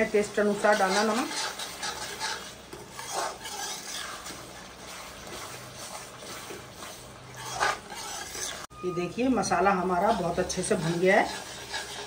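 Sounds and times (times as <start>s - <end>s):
sauce bubbling and sizzling in a pan: 0.0s - 8.7s, 9.4s - 12.0s
spoon stirring on pan: 0.0s - 12.0s.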